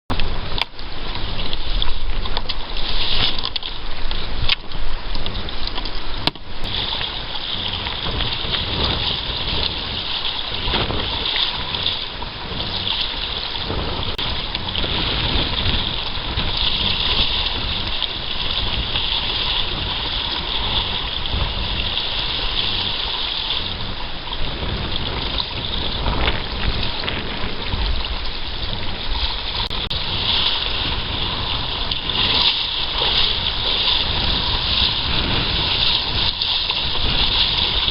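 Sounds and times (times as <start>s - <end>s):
water splashing along a hull: 0.1s - 37.9s
wind on microphone: 0.1s - 37.9s.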